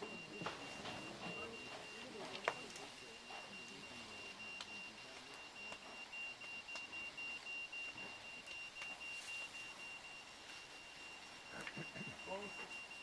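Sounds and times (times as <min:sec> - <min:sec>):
thin high steady tone: 0:00.0 - 0:13.0.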